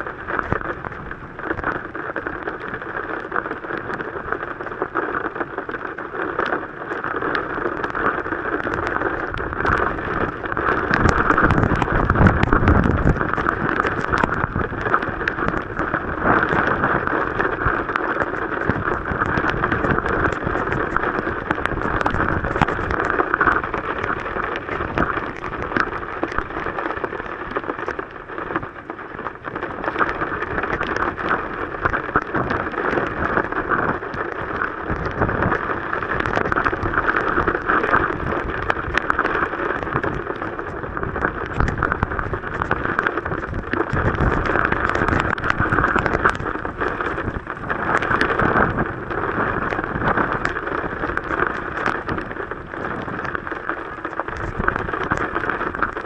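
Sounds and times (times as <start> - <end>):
heavy rain on vehicle roof: 0.0 - 56.0.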